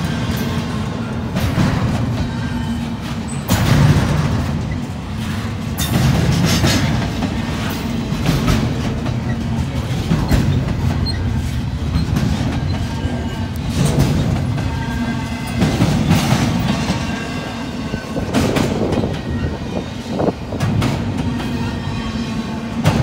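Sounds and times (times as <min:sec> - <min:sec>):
train rumbling past: 0:00.0 - 0:23.0
wheels clacking on rails: 0:00.0 - 0:23.0.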